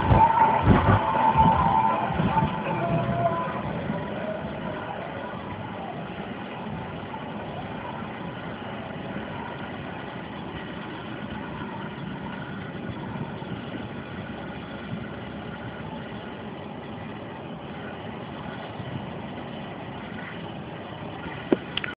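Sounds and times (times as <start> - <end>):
coach engines driving past: 0.0 - 21.9.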